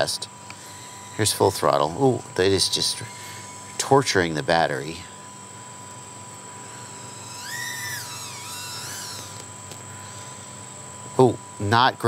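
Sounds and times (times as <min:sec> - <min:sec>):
distant drone motor whine: 0:00.0 - 0:12.0.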